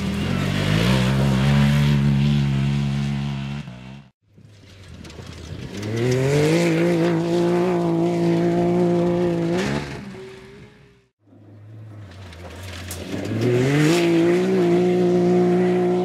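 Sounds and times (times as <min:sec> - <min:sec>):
buggy engine revving: 0:00.0 - 0:04.2, 0:04.8 - 0:16.0.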